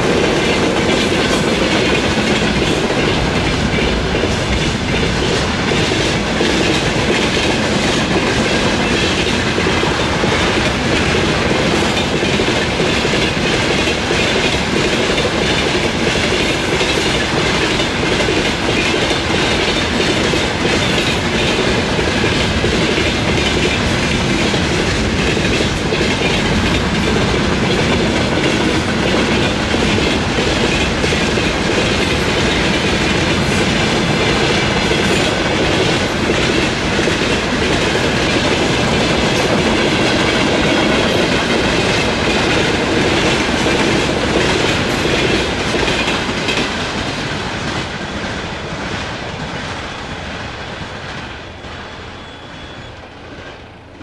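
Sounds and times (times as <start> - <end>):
clickety-clack over rail joints: 0.0 - 54.0
train wheels rumbling on rail: 0.0 - 54.0.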